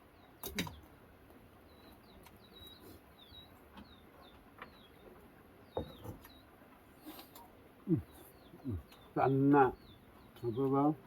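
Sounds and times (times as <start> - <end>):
small bird chirping: 1.6 - 11.0.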